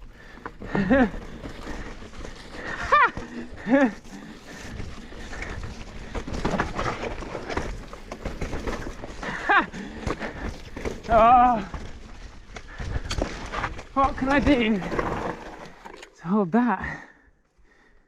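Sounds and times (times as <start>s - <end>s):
bike tyres and rattling: 0.0s - 17.1s.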